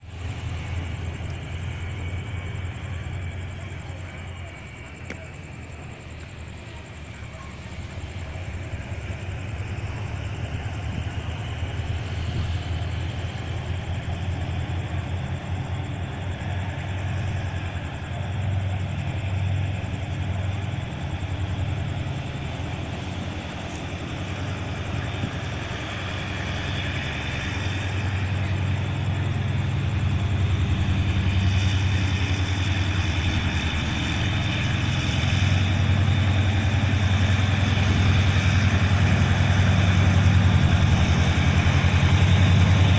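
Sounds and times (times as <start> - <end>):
diesel locomotive engine rumbling: 0.0 - 42.9.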